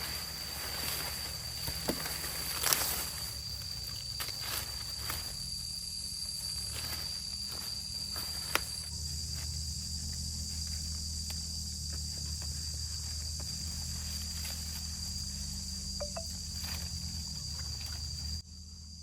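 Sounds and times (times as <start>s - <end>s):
high-pitched insect drone: 2.5s - 19.0s.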